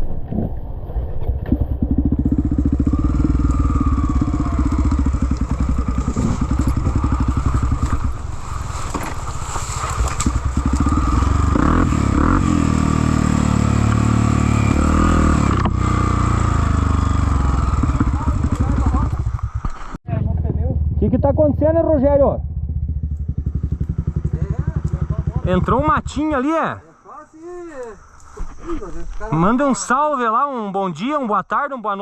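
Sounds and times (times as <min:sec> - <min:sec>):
motorcycle engine revving: 0:01.3 - 0:27.1.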